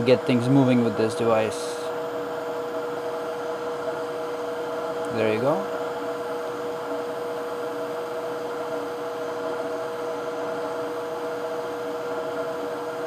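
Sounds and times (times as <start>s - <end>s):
hot air blower hissing: 0.0s - 13.0s
steady hum: 0.0s - 13.0s.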